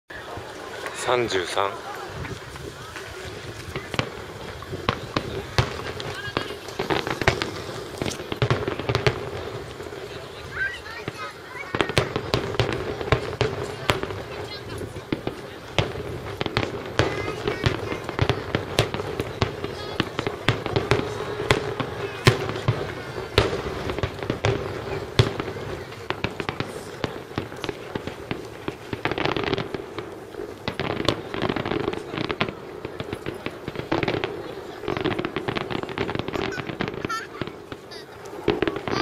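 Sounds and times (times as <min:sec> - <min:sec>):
firework crackling: 0:00.1 - 0:39.0
firework shells bursting: 0:00.8 - 0:39.0.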